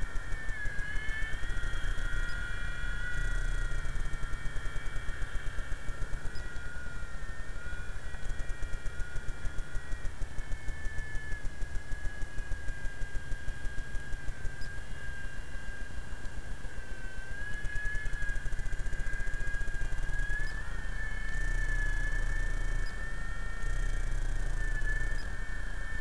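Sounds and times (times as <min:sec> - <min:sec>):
model helicopter whine: 0:00.0 - 0:26.0.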